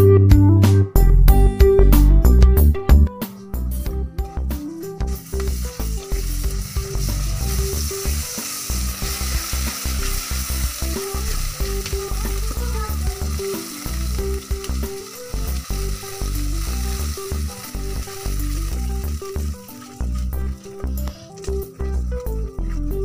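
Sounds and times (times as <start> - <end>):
background music: 0.0 - 23.0
sugar and butter sizzling: 3.8 - 23.0.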